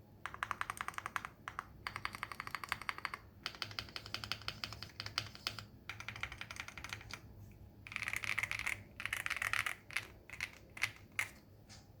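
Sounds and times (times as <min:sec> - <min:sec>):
typing on mechanical keyboard: 0:00.2 - 0:11.4.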